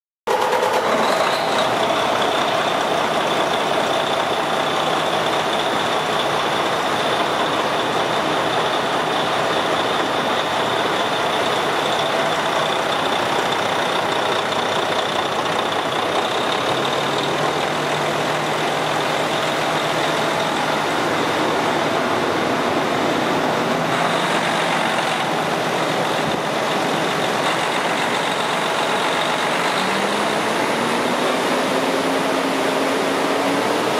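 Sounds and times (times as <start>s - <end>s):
diesel truck engine idling: 0.3s - 33.9s.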